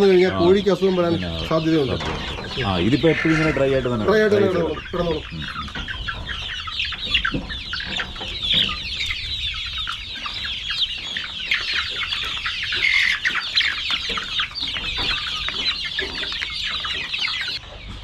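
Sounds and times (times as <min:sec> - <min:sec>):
chickens chirping: 0:00.0 - 0:18.0.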